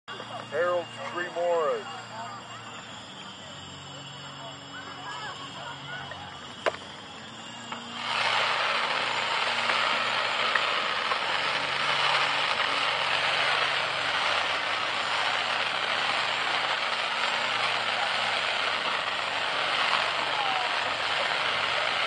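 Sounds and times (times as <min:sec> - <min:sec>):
firework crackling and hissing: 0:00.1 - 0:22.0.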